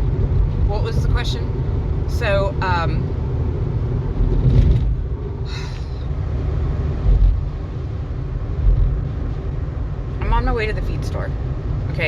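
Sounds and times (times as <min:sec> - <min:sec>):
vehicle road rumble inside cabin: 0:00.0 - 0:12.0.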